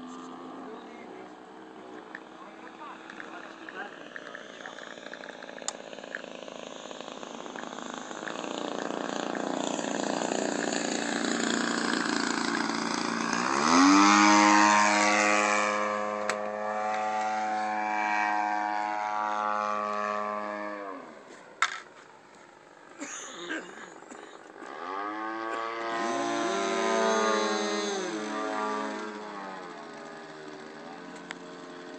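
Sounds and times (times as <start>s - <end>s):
model airplane engine at high throttle: 0.0s - 31.9s.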